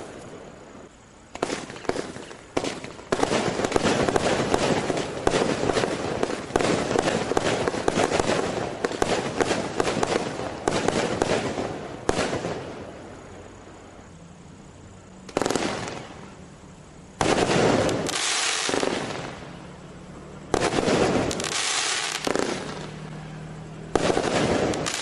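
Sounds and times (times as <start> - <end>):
firework cake crackling: 0.0 - 13.8, 15.1 - 25.0.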